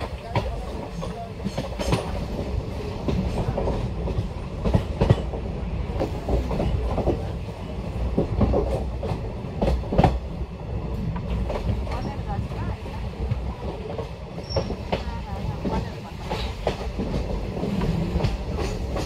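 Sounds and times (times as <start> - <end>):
clickety-clack knocks and clanks: 0.0 - 7.3, 8.1 - 10.2, 11.1 - 12.7, 13.3 - 19.0
wheels rumbling on rails: 0.0 - 19.0.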